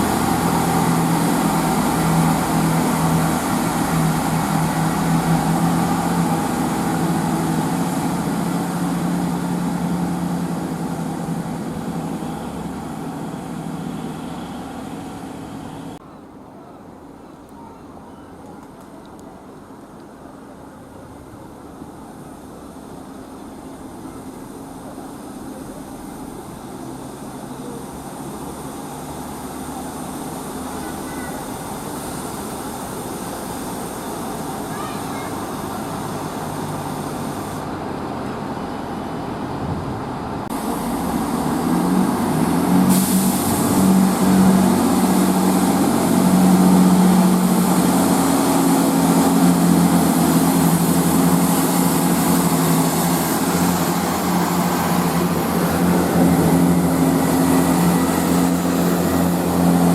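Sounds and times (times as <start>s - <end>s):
diesel train engine: 0.0s - 59.9s
wheels rushing on rails: 0.0s - 59.9s.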